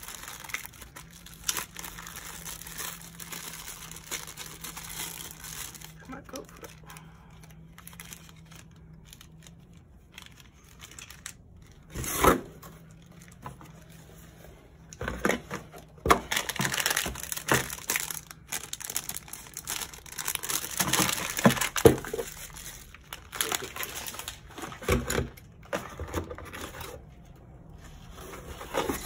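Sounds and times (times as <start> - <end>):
plastic bags crinkling: 0.0 - 12.0, 15.0 - 26.6.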